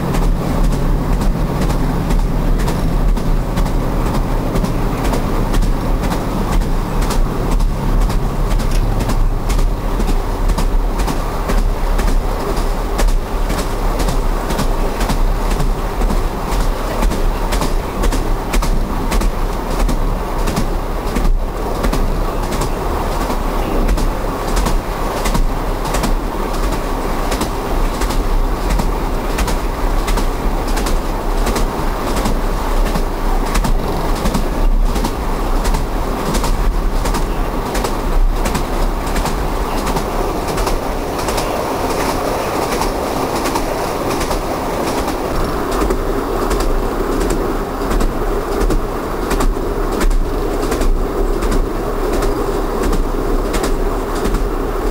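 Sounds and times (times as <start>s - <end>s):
train rolling rumble: 0.0s - 54.9s
wheels clicking over rail joints: 0.0s - 54.9s.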